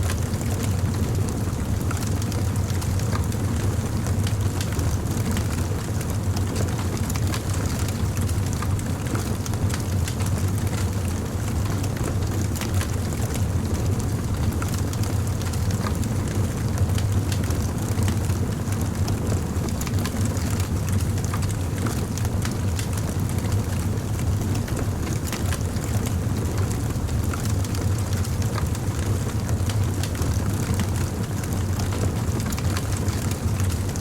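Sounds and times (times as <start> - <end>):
fire crackling and popping: 0.0 - 34.0.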